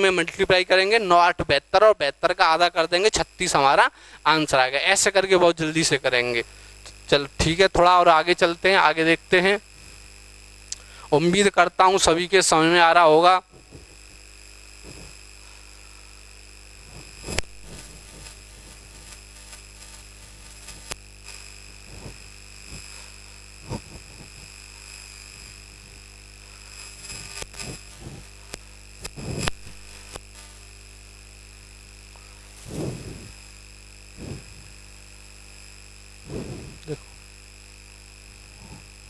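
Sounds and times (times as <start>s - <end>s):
electrical hum with high whine: 0.0s - 39.0s.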